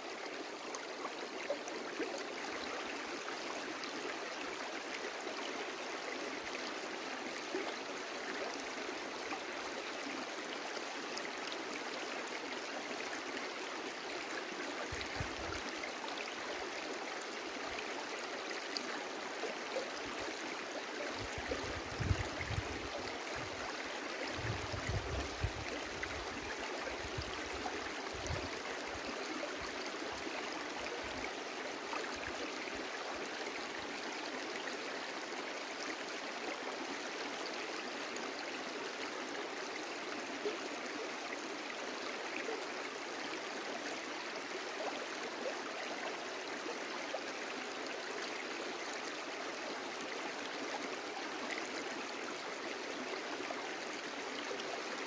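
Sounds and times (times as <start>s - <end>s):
brook flowing: 0.0s - 55.0s.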